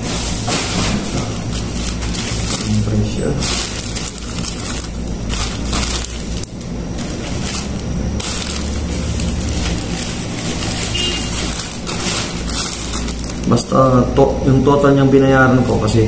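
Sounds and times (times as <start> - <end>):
plastic bag rustling: 0.0 - 14.6.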